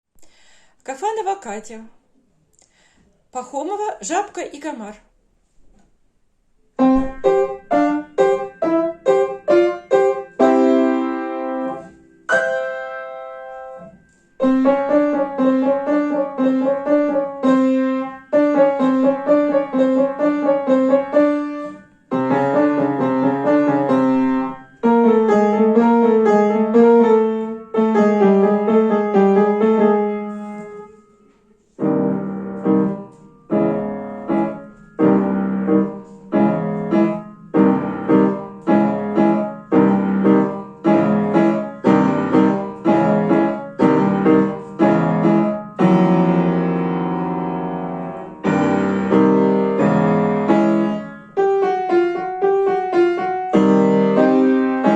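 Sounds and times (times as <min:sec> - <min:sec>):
solo piano piece: 0:06.8 - 0:54.9.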